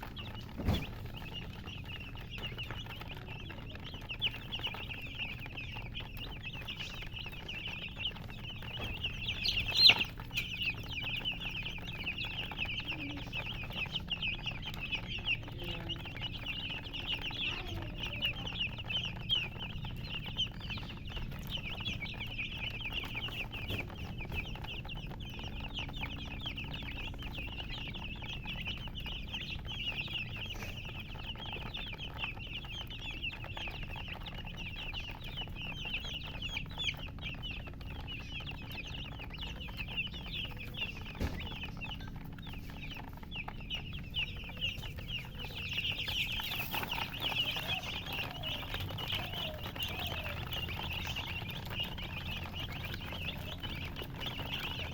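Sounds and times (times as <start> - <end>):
baby chicks peeping: 0.0 - 54.9
hen clucking: 0.0 - 54.9.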